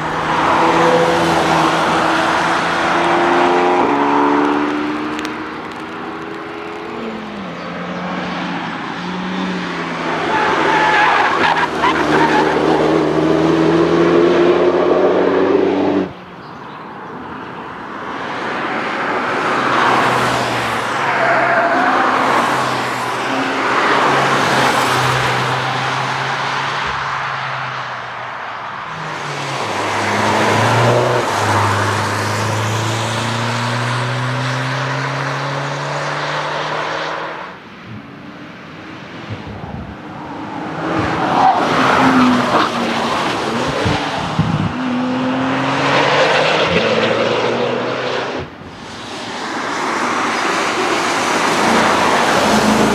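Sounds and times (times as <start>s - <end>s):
performance cars driving past: 0.0s - 16.3s, 17.1s - 52.9s.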